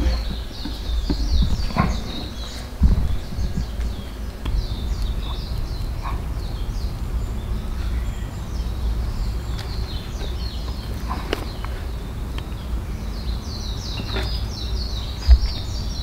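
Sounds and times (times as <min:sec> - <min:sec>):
birds chirping: 0:00.0 - 0:16.0
low outdoor rumble: 0:00.0 - 0:16.0.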